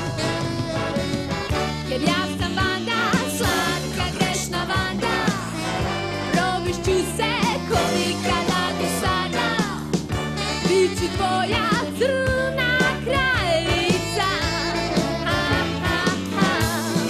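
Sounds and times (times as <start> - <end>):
pop-rock band music: 0.0 - 17.0.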